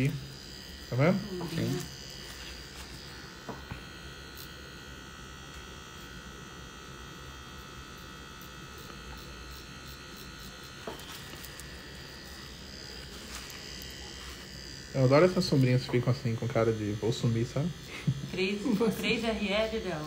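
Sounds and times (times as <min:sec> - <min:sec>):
tattoo machine buzzing: 0:00.0 - 0:20.0.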